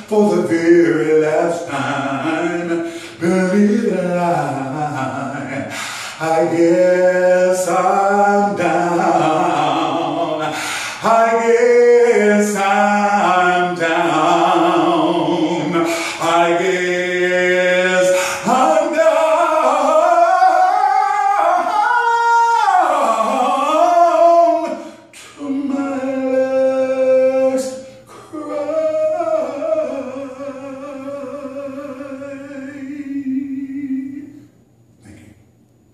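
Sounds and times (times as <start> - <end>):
man singing unaccompanied: 0.0 - 34.4.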